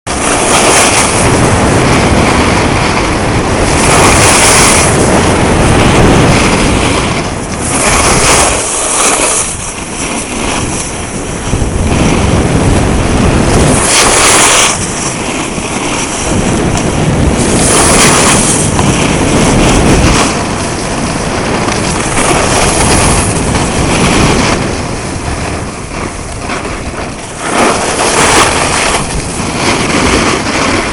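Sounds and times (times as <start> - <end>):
skis scraping over snow: 0.1 - 30.9
wind buffeting microphone: 0.1 - 30.9.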